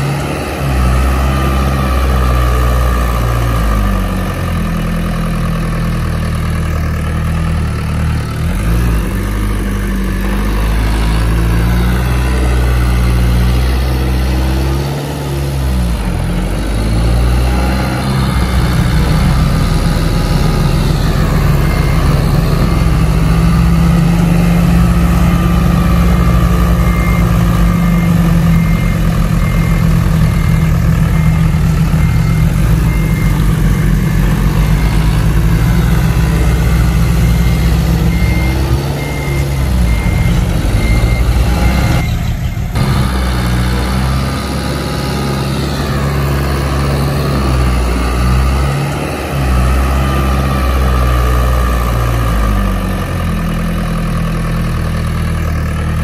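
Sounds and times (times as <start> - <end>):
heavy diesel engine: 0.0 - 56.0.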